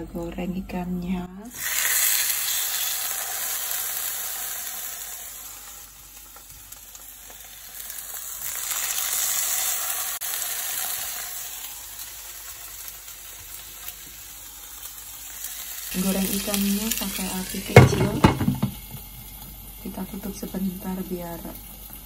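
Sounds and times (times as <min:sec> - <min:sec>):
fish sizzling in hot oil: 0:01.5 - 0:22.0.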